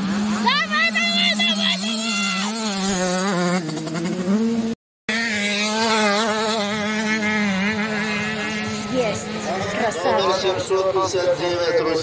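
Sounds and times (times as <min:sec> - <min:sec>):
motocross bike engine racing: 0:00.0 - 0:12.0.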